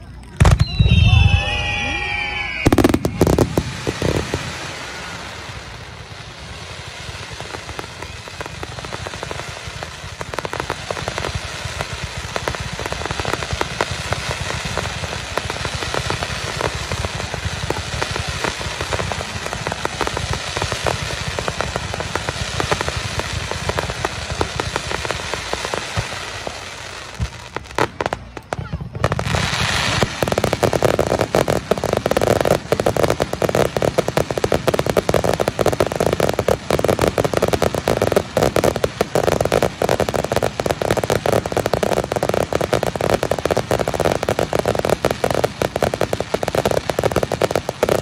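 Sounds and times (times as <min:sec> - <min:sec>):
fireworks crackling: 0:00.0 - 0:48.0.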